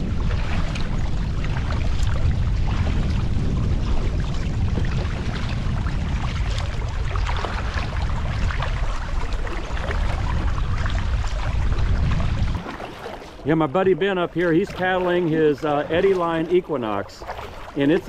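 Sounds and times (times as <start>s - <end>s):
kayak paddle dipping: 0.0s - 18.0s
water splashing and lapping: 0.0s - 18.0s
wind buffeting microphone: 0.0s - 18.0s.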